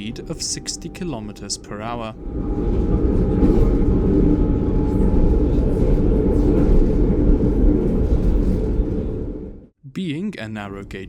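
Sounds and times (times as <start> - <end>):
faint train whine: 0.0 - 9.7
train wheels rumbling: 0.0 - 9.7.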